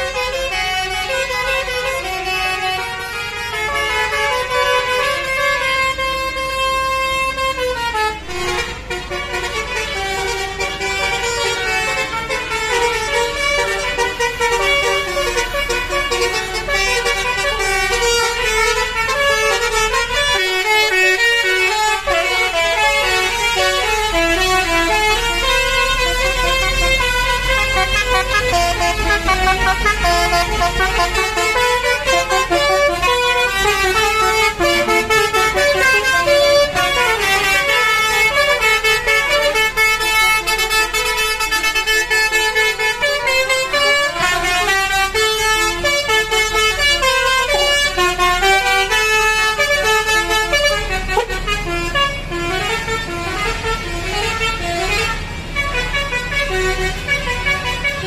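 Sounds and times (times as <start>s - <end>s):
bus engine rumbling: 0.0s - 58.0s
bus horn playing a melody: 0.0s - 58.0s.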